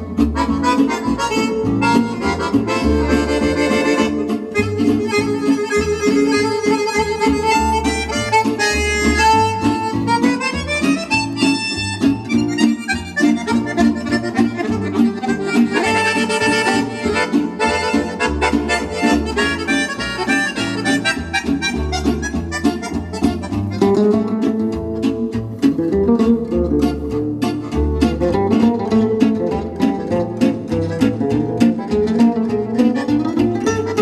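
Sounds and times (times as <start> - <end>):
reedy melody over plucked strings: 0.0 - 34.0.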